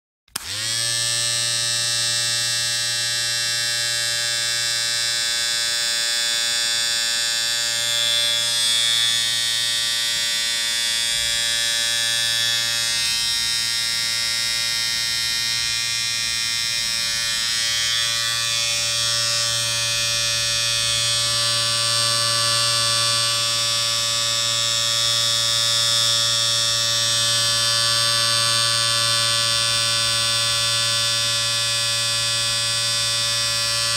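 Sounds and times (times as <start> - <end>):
electric shaver buzzing: 0.4 - 33.9.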